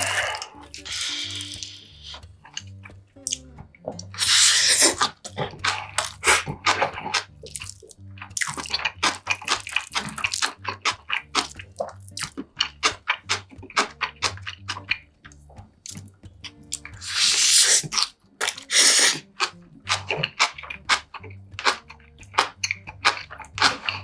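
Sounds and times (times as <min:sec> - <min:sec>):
slurping liquid: 0:00.0 - 0:15.1, 0:15.9 - 0:24.0
wet chewing clicks: 0:00.0 - 0:24.0.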